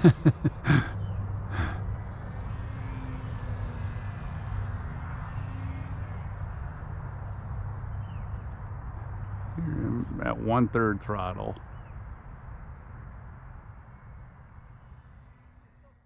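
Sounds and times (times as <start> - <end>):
model plane motor droning: 0.0 - 16.0
steady low hum: 0.0 - 16.0.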